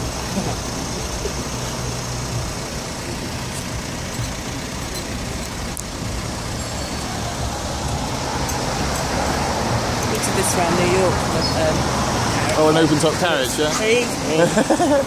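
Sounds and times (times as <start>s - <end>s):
car engines humming: 0.0s - 15.0s.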